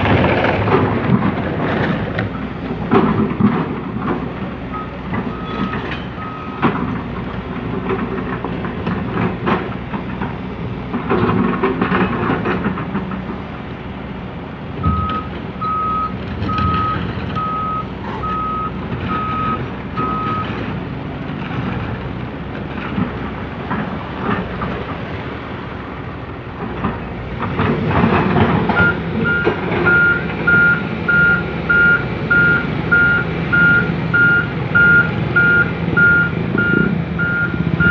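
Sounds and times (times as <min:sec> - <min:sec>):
excavator clanks: 0:00.0 - 0:37.9
heavy diesel machinery: 0:00.0 - 0:37.9.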